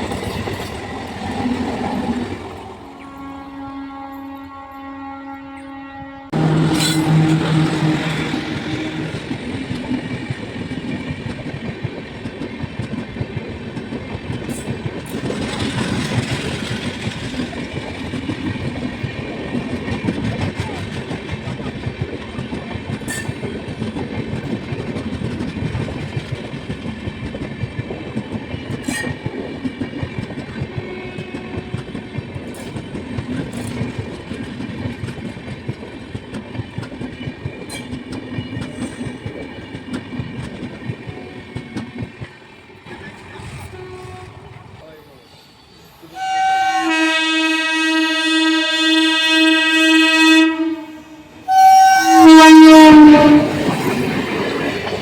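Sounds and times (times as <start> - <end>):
train running on rails: 0.0 - 55.0.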